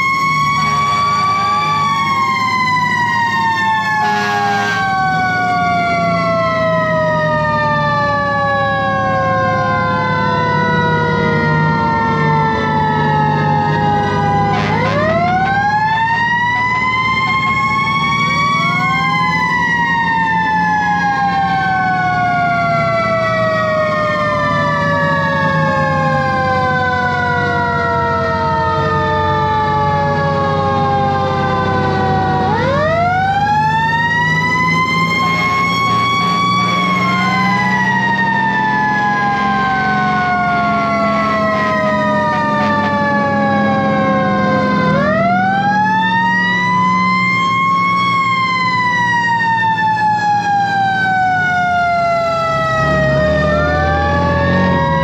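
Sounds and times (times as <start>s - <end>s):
diesel engine running: 0.0s - 55.0s
fire engine sirens wailing: 0.0s - 55.0s.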